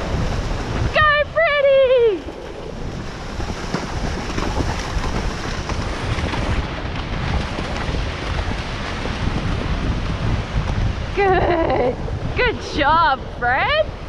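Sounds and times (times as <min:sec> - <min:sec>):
surf washing in: 0:00.0 - 0:14.0
wind buffeting microphone: 0:00.0 - 0:14.0.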